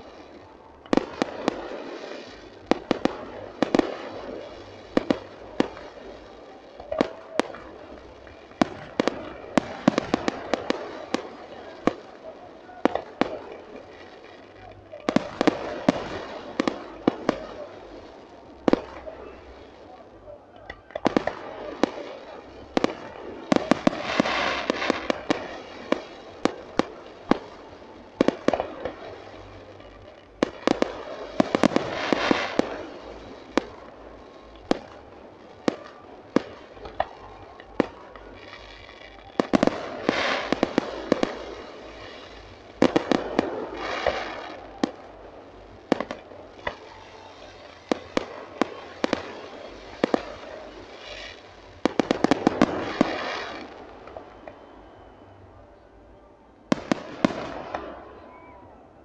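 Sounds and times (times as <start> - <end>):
firework bangs: 0.0 - 55.4, 56.7 - 58.7
firework crackling: 0.0 - 59.0.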